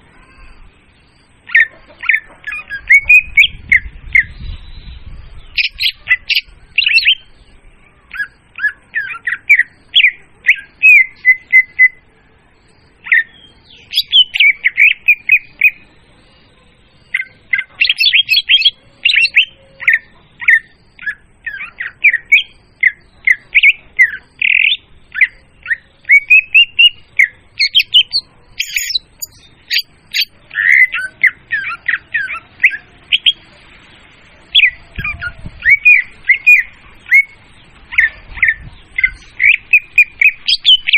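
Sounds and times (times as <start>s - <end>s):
bird song whistling and chattering: 0.0s - 40.9s.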